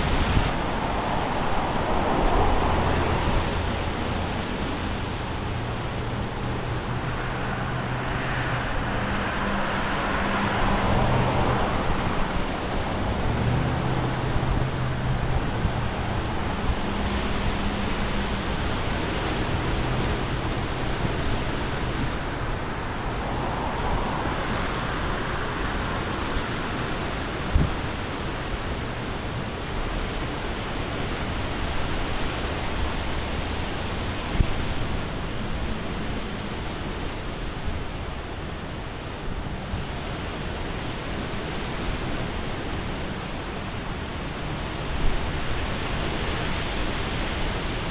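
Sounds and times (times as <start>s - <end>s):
ocean surf breaking on rocks: 0.0s - 47.9s.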